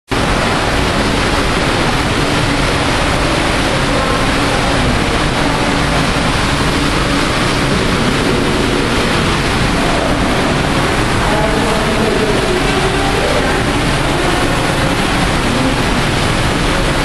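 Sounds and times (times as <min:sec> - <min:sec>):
loud steady rushing noise: 0:00.1 - 0:17.0.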